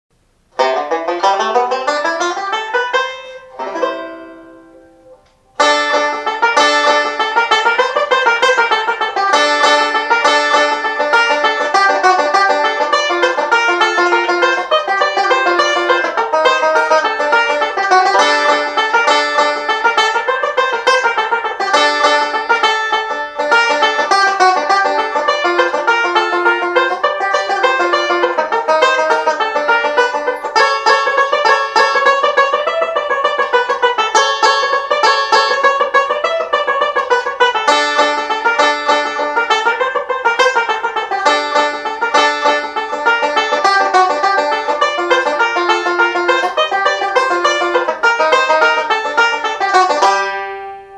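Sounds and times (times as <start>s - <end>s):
banjo picking notes: 0.1s - 50.9s.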